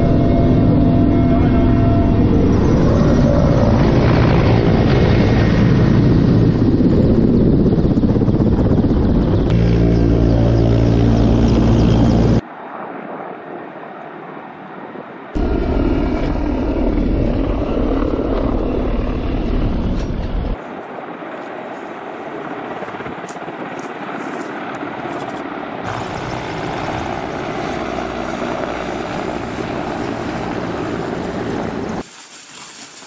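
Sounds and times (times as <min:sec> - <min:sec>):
helicopter rotors and engines drone: 0:00.0 - 0:32.0.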